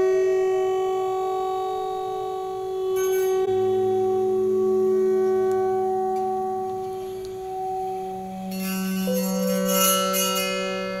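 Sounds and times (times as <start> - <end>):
electric zither drone tones: 0.0 - 11.0
high shimmer: 0.0 - 11.0.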